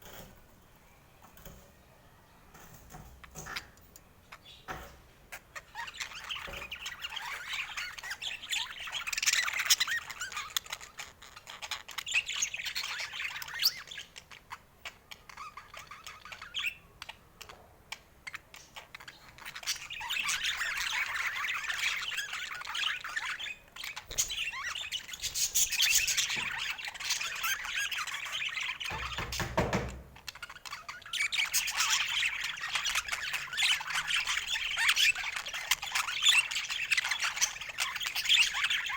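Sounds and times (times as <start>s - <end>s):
budgerigars chattering: 3.3s - 29.8s, 30.4s - 38.9s.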